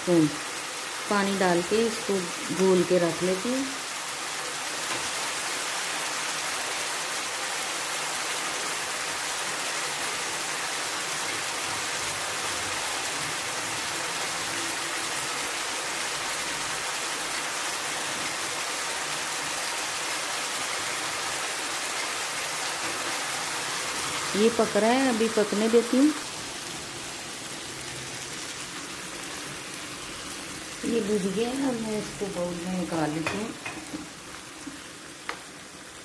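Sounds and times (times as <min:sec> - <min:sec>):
chicken sizzling in a frying pan: 0:00.0 - 0:36.0.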